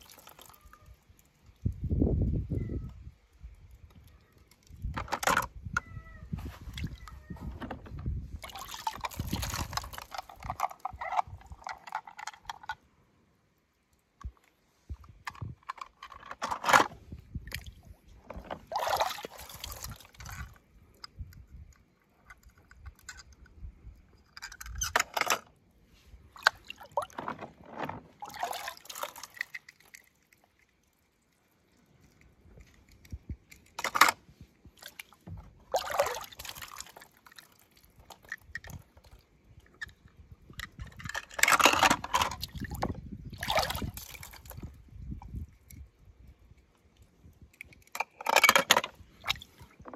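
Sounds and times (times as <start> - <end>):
water splashing and sloshing: 0.0 - 1.9, 2.5 - 49.9.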